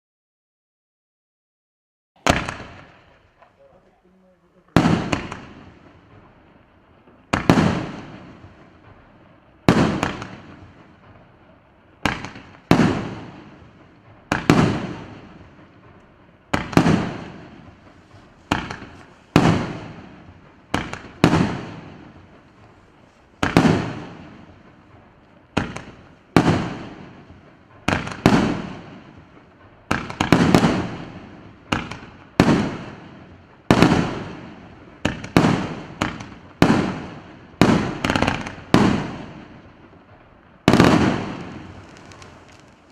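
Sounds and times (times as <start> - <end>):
firework shots banging: 2.2 - 42.9.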